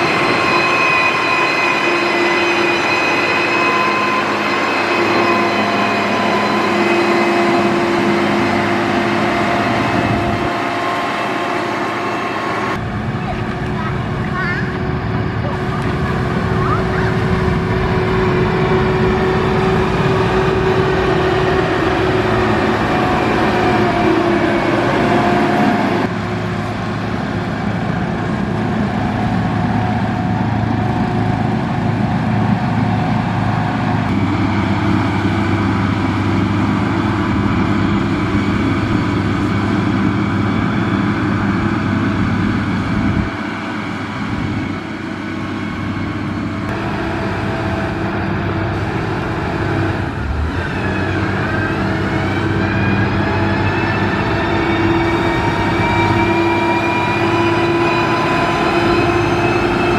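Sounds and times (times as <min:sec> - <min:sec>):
engine whine: 0:00.0 - 0:59.9
diesel engine running: 0:05.0 - 0:59.9.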